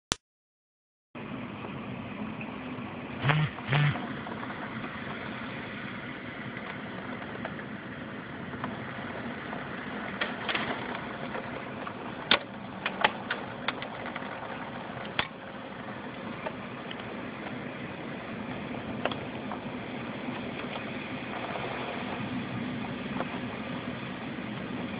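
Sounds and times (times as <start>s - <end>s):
storm wind: 4.0s - 24.9s.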